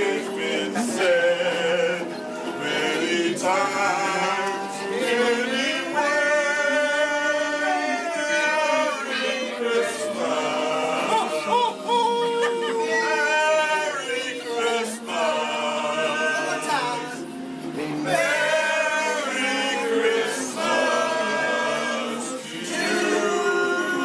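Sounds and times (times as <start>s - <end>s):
group singing together: 0.0s - 24.0s.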